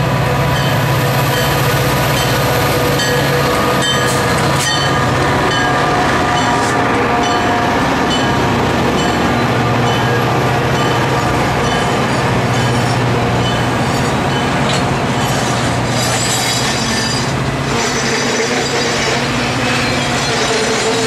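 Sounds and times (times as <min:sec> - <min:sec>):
diesel locomotive passing: 0:00.0 - 0:21.0
train coaches rumbling by: 0:00.0 - 0:21.0.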